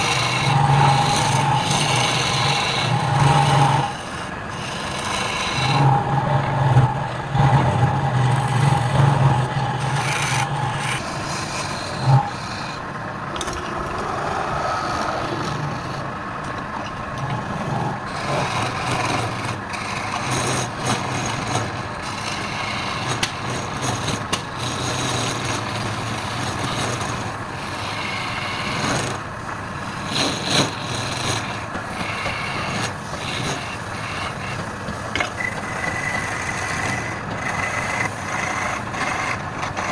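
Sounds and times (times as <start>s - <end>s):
lathe motor hum: 0.0s - 39.9s
tool scraping spinning wood: 0.0s - 39.9s.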